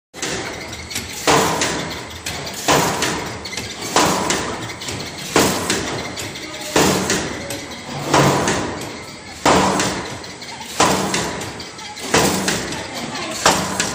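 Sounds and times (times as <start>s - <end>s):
machinery running: 0.2s - 13.9s.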